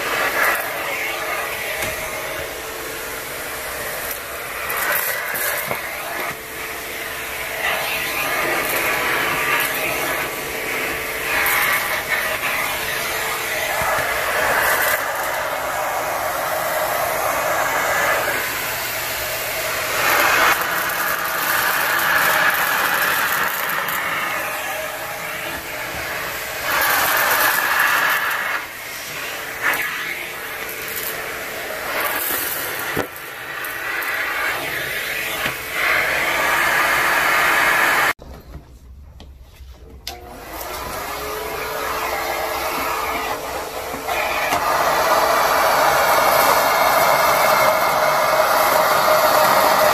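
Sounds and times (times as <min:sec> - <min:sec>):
vacuum cleaner suction: 0:00.0 - 0:38.2, 0:40.1 - 0:49.9.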